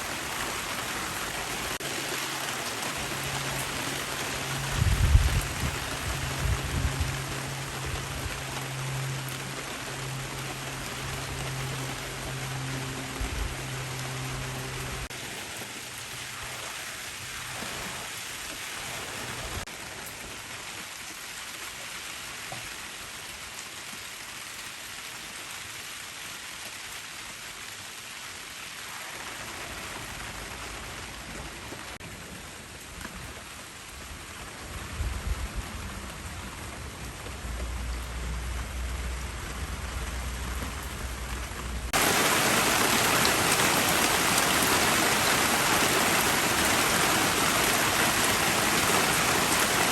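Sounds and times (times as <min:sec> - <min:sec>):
heavy rain downpour: 0:00.0 - 0:49.9.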